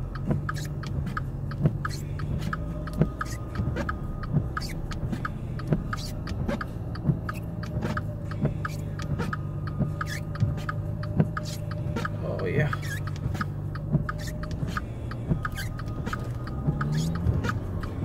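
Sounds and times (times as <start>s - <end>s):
car engine running under load: 0.0s - 18.0s
small ticks and clicks: 0.1s - 18.0s.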